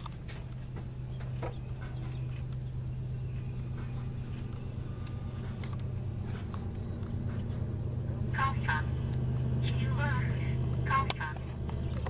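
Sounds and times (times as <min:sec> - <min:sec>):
small birds chirping: 0:00.0 - 0:10.9
steady low hum: 0:00.0 - 0:12.0.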